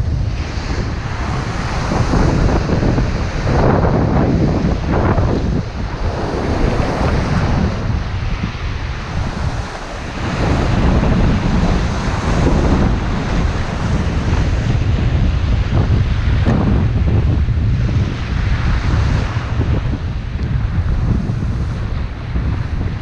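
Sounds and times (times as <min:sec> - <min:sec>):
sea surf washing on shore: 0:00.0 - 0:23.0
wind buffeting microphone: 0:00.0 - 0:23.0.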